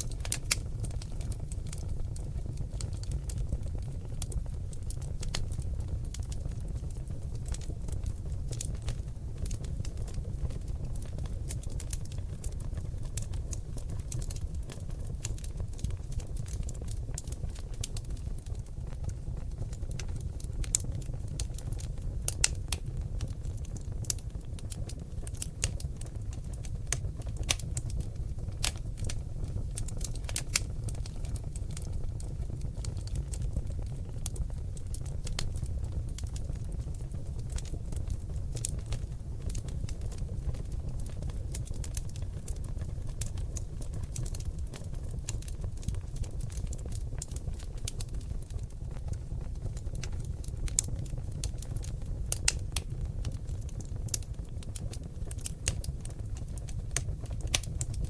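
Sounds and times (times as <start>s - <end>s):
logs crackling in fireplace: 0.0s - 58.0s
low rumble of flames: 0.0s - 58.0s.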